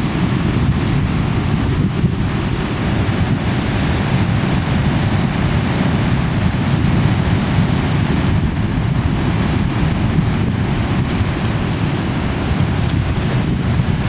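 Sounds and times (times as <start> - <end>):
ocean waves breaking: 0.0 - 14.0
wind rumbling on microphone: 0.0 - 14.0.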